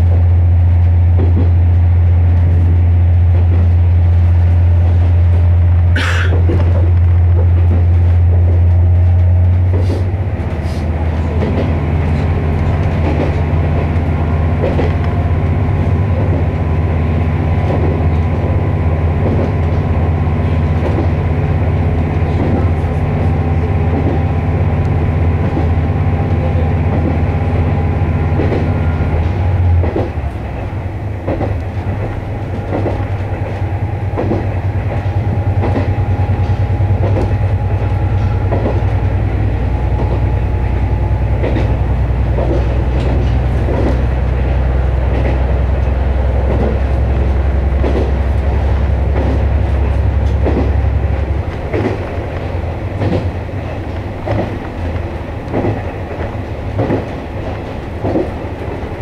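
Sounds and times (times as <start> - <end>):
diesel railcar engine drone: 0.0 - 59.0.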